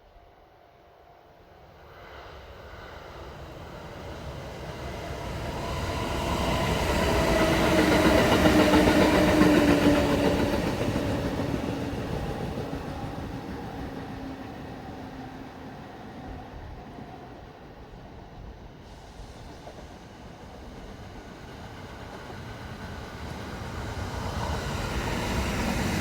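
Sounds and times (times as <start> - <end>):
electric train rumbling past: 0.4 - 26.0.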